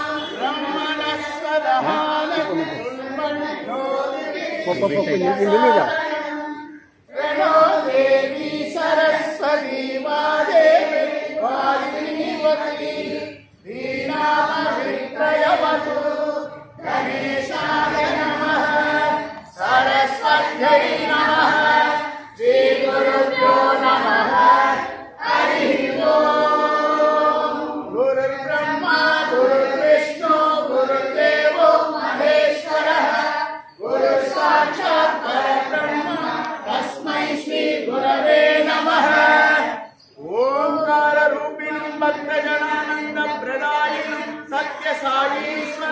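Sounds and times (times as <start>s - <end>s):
group singing devotional song: 0.0s - 45.9s.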